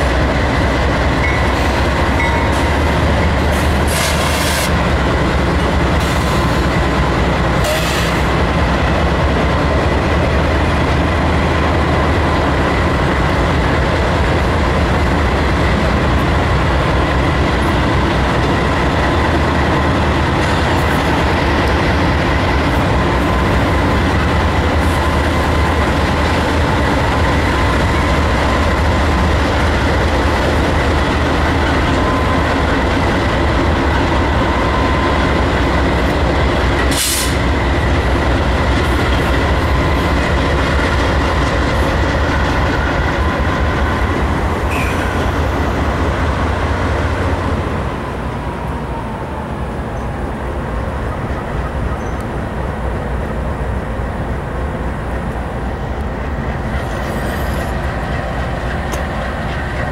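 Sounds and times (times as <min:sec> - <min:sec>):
diesel locomotive drone: 0:00.0 - 0:59.9
rail cars rumbling: 0:00.0 - 0:59.9.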